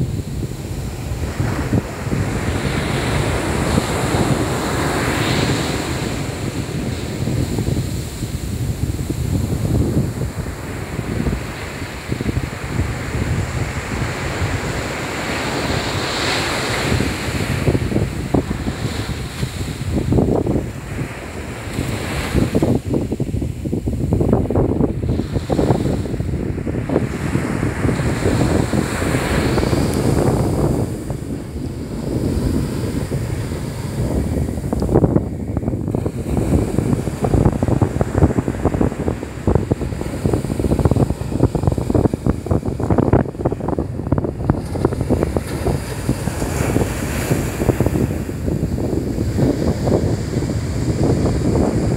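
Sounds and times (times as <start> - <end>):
ocean surf on sand beach: 0.0 - 51.9
wind buffeting microphone: 0.0 - 51.9.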